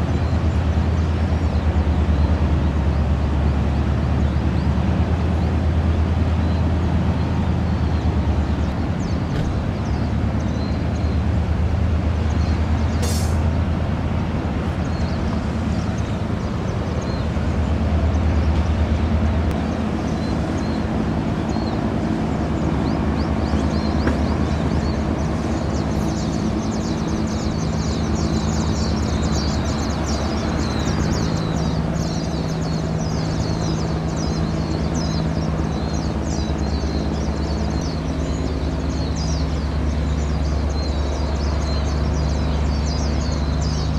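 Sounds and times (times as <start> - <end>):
rushing background noise: 0.0 - 43.9
ship engine drone: 0.0 - 43.9.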